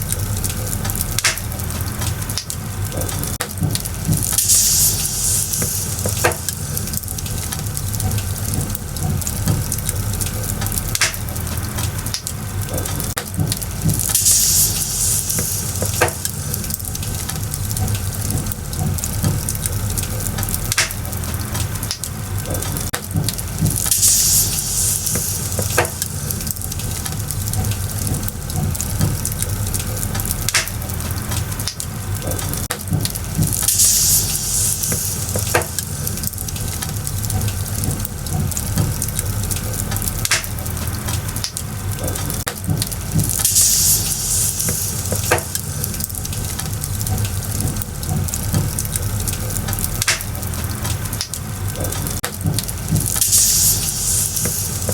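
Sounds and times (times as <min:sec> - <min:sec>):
high hiss from fire: 0:00.0 - 0:51.3, 0:52.1 - 0:54.9
firewood crackling and popping: 0:00.0 - 0:54.9.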